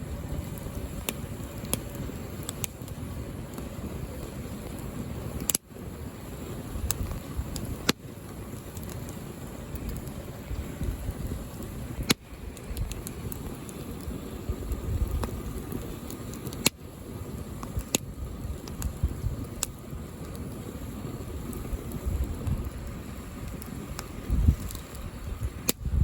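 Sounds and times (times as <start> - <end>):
wind rumble on microphone: 0.0 - 26.0
wood fire crackling pops: 0.0 - 26.0.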